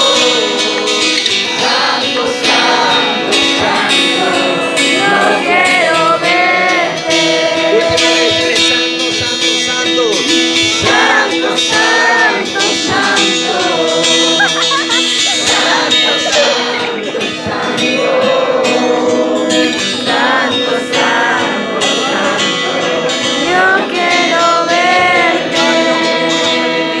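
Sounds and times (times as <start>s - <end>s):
people singing: 0.0s - 27.0s
strummed acoustic guitar: 0.0s - 27.0s.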